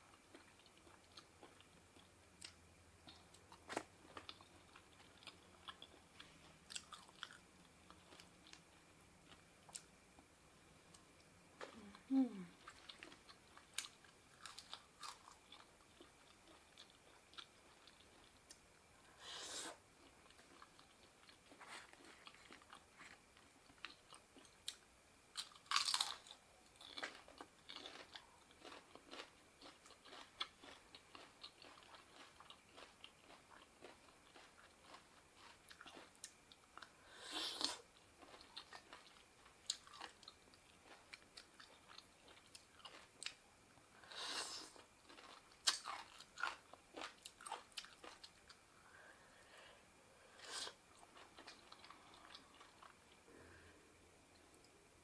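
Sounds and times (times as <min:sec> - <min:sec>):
person chewing food: 0:00.0 - 0:10.3, 0:10.9 - 0:43.4, 0:44.0 - 0:48.6, 0:50.3 - 0:53.3.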